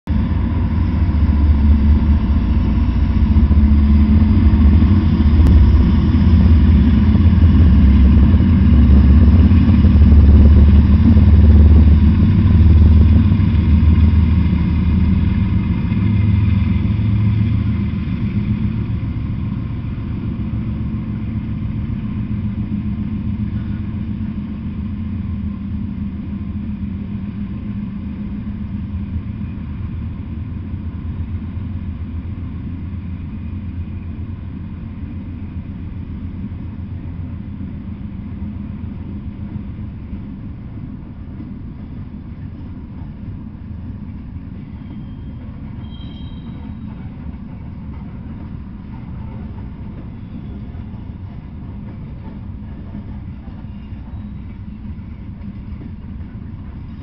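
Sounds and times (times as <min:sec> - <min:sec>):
freight cars rumbling on rails: 0:00.0 - 0:57.0
locomotive engines droning: 0:00.1 - 0:57.0.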